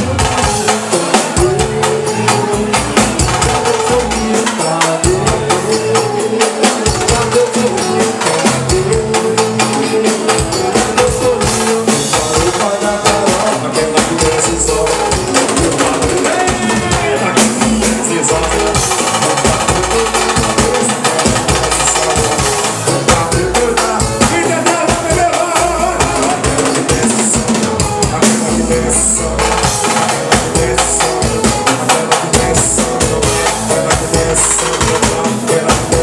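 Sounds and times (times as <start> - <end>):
live band playing pagode music: 0.0 - 36.0
repeating keyboard melody: 0.0 - 36.0
tambourine-like percussion beat: 0.0 - 36.0.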